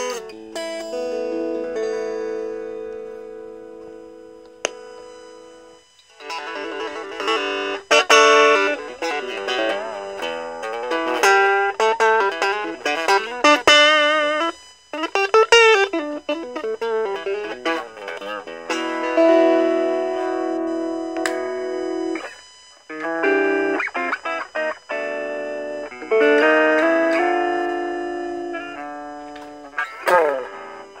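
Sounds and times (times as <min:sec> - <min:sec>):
electric guitar single-note lines: 0:00.0 - 0:31.0.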